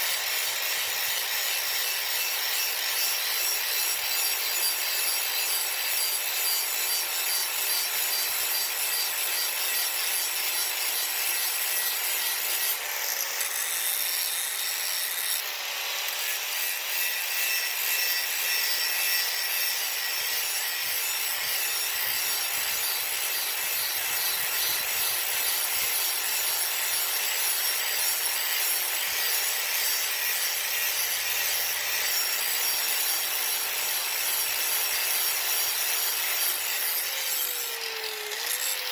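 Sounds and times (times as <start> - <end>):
power grinder grinding metal: 0.0 - 38.9.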